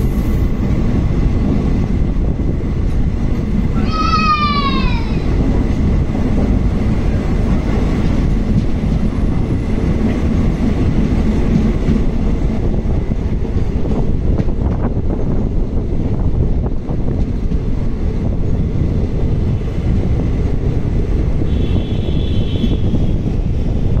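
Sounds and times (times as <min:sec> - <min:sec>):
train passing alongside: 0:00.0 - 0:24.0
train rumble and wind: 0:00.0 - 0:24.0.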